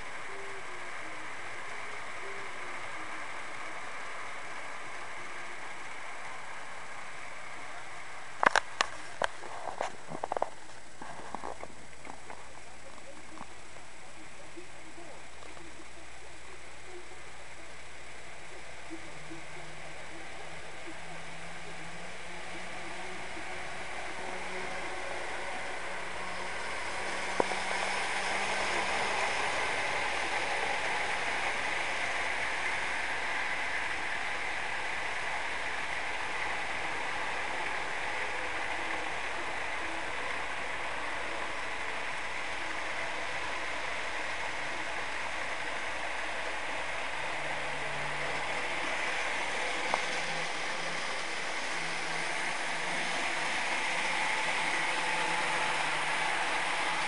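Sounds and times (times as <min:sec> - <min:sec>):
faint low hum: 0:00.0 - 0:57.0
model train motors whirring: 0:00.0 - 0:57.0.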